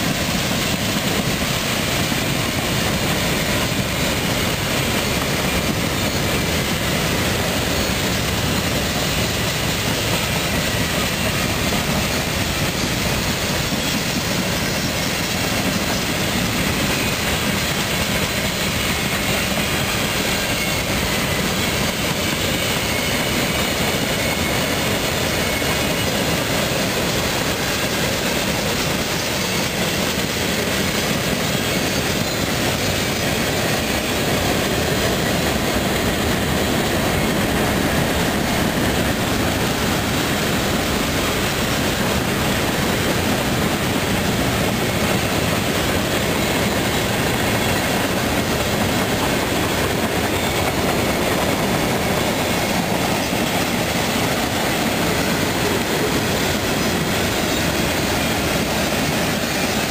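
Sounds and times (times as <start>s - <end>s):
train wheels rolling on rail: 0.0s - 59.9s.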